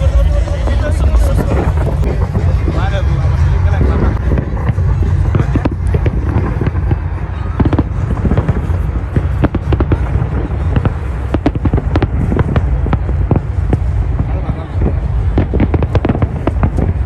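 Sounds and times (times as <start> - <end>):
fireworks bangs and crackles: 0.0 - 17.0
low rumble: 0.0 - 17.0.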